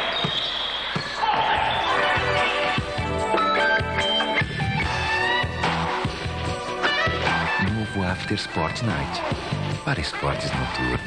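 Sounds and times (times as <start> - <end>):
background music with beat: 0.1 - 11.0.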